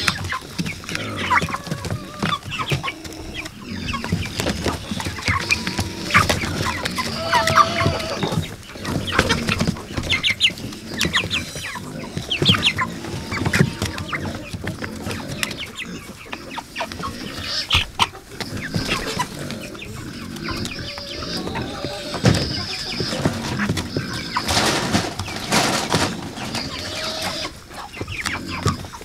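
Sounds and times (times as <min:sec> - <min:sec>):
beaks pecking at feed: 0:00.0 - 0:24.5, 0:25.1 - 0:29.0
chickens clucking: 0:00.0 - 0:29.0.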